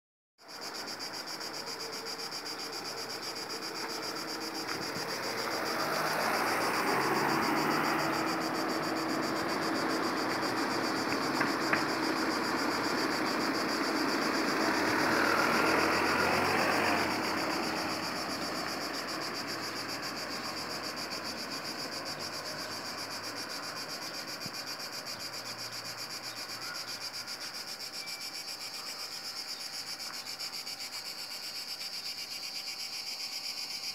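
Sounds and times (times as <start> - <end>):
cicada buzzing: 0.4 - 33.9.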